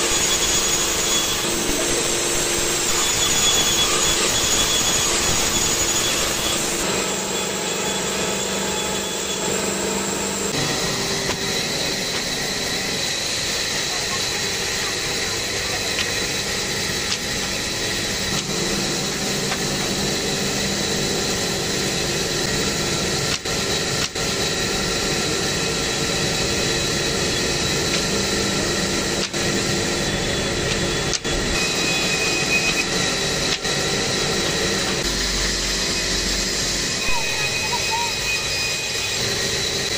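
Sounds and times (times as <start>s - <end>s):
motor whining over hiss: 0.0s - 39.9s.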